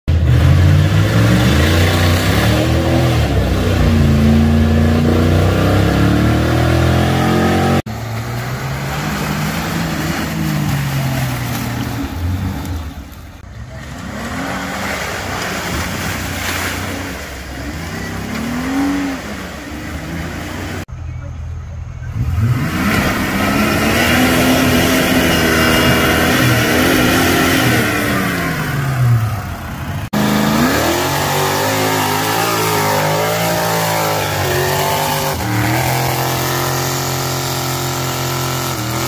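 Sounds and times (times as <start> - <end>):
off-road engines revving: 0.0 - 39.0
tyres churning mud: 0.1 - 21.2, 22.0 - 39.0.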